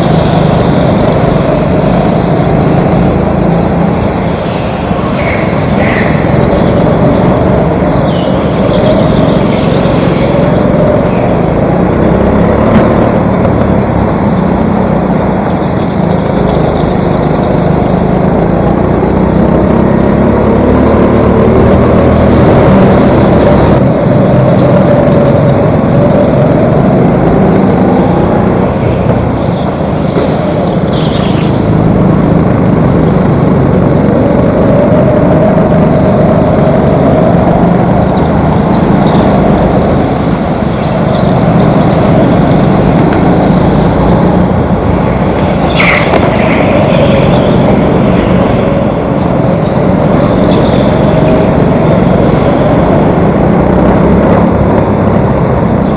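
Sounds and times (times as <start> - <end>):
go-kart engine running hard: 0.0 - 55.9
other karts running nearby: 0.0 - 55.9.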